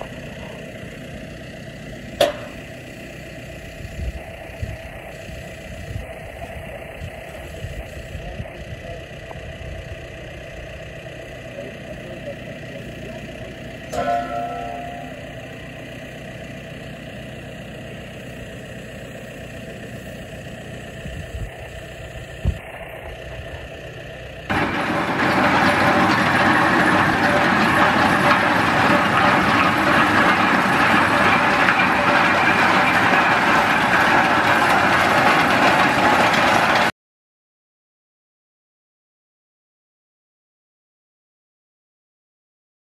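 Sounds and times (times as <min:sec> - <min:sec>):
roller-crimper flattening crop: 0:00.0 - 0:36.9
tractor engine: 0:00.0 - 0:36.9.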